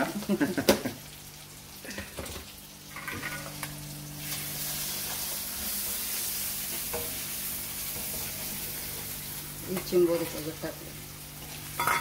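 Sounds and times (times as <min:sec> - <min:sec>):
spices frying in hot oil: 0:00.0 - 0:12.0.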